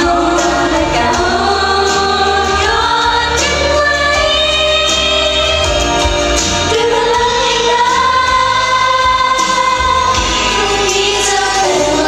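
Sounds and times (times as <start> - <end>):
woman singing into a microphone: 0.0 - 6.0, 6.7 - 12.0
backing track over pa: 0.0 - 12.0.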